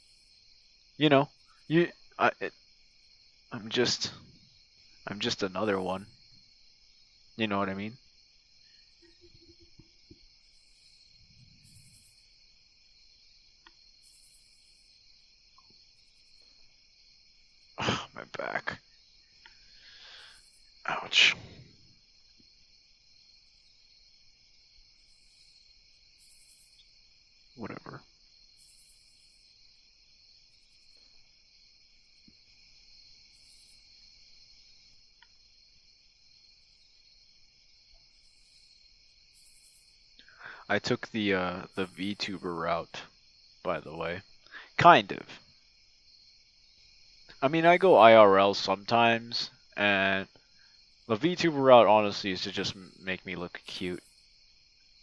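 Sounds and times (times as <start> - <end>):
cricket drone: 0.0 - 55.0
insect chirping trills: 0.0 - 55.0.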